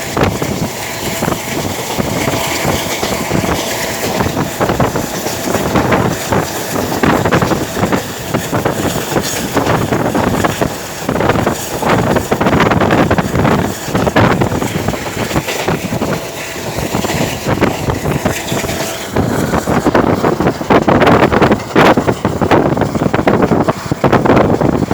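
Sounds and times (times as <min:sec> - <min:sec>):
train running noise: 0:00.0 - 0:24.9
wind buffeting microphone: 0:00.0 - 0:24.9.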